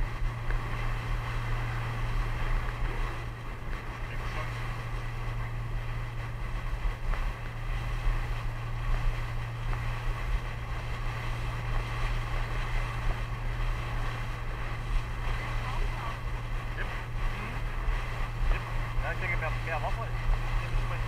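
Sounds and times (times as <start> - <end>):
boat motor droning: 0.0 - 21.0
water rushing past hull: 0.0 - 21.0
wind buffeting the microphone: 0.0 - 21.0.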